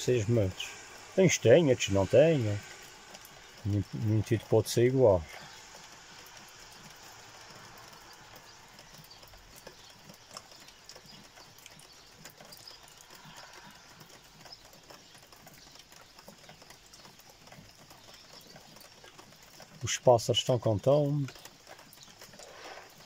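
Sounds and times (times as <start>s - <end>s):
faint outdoor ambience: 0.0s - 23.0s
light irregular ticks: 0.0s - 23.0s.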